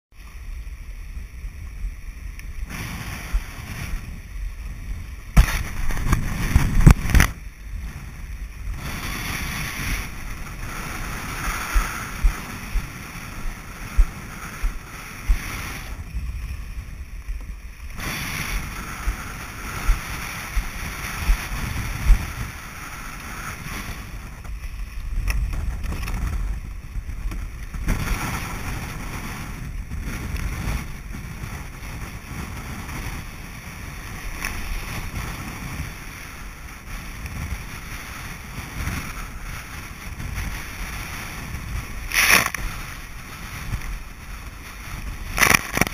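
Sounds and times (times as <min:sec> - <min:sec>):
surf and water washing: 0:00.1 - 0:45.9
wind buffeting microphone: 0:00.6 - 0:45.9.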